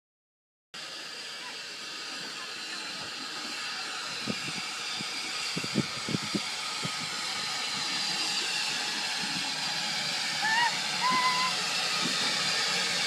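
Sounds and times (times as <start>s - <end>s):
steam locomotive hissing: 0.8s - 13.0s.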